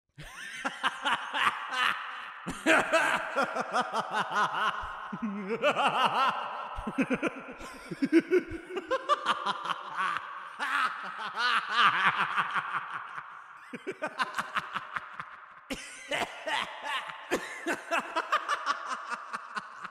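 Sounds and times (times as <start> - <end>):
person laughing creepily: 0.2 - 19.9.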